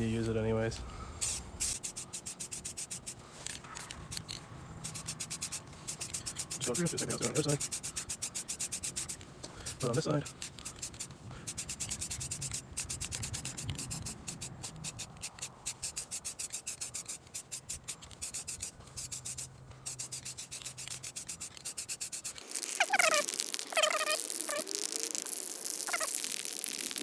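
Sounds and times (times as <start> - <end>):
spray can rattling: 1.2 - 27.0.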